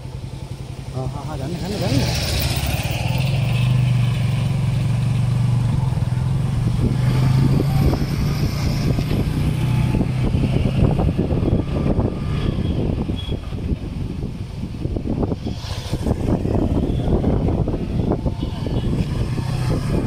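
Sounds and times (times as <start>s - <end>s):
wind rumbling on microphone: 1.5s - 20.0s.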